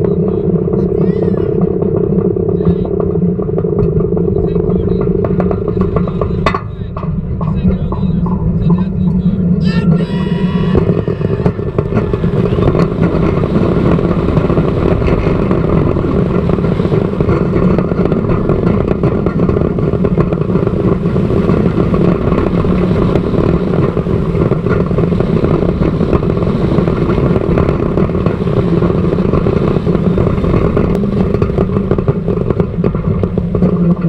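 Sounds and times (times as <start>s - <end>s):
roller coaster track roar: 0.0s - 34.0s
wind rushing over microphone: 0.0s - 34.0s.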